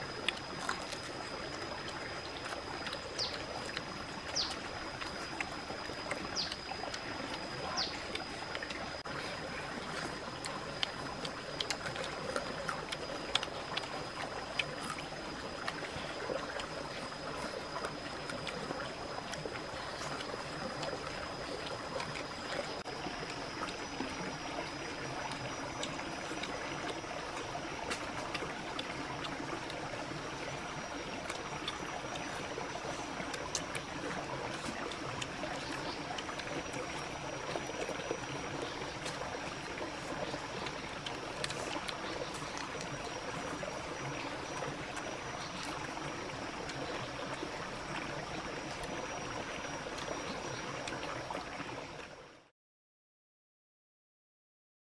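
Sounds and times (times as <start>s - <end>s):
stream trickling: 0.0s - 52.5s.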